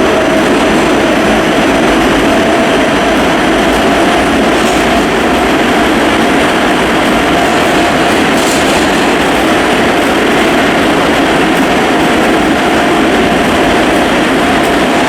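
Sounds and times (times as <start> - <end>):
train rushing: 0.0 - 15.0.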